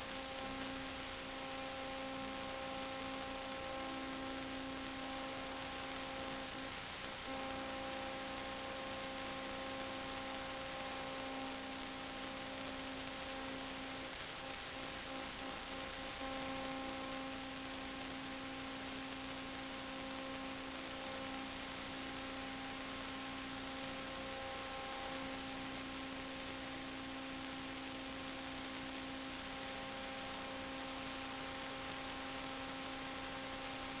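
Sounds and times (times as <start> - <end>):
hum of held tones: 0.0 - 34.0.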